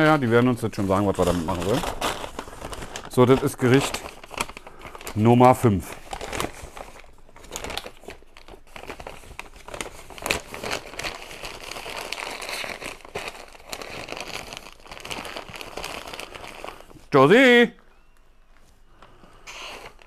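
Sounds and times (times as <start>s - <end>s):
paper bags rustling: 0.0s - 20.0s.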